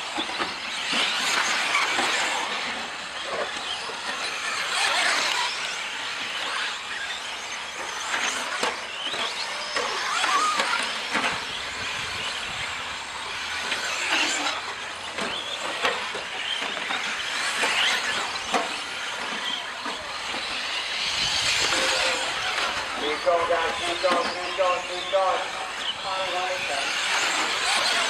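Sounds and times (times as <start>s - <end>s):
rc truck motors whining: 0.0s - 28.0s.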